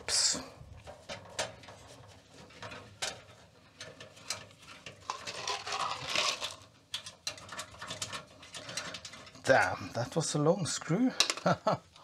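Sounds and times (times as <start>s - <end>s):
scraping and rustling: 0.0s - 9.8s.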